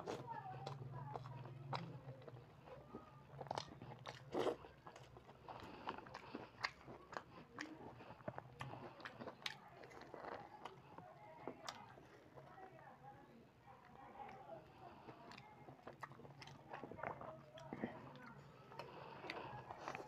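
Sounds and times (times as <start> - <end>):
wet chewing and lip smacks: 0.0 - 12.4, 13.9 - 20.0.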